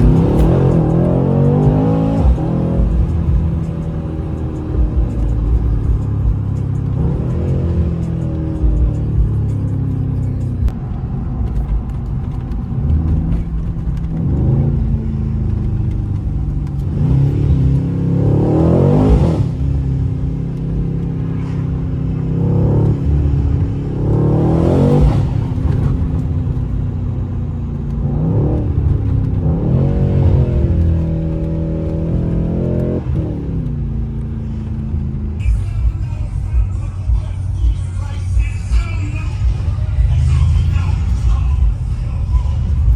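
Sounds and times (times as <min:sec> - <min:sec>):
car engine accelerating: 0:00.0 - 0:42.9
low engine drone: 0:00.0 - 0:42.9.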